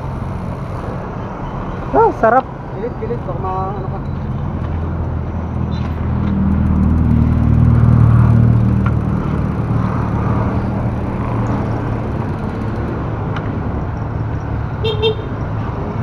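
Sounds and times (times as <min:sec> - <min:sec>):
motorcycle engine running: 0:00.0 - 0:02.3, 0:03.5 - 0:15.3
road and wind noise: 0:00.0 - 0:16.0.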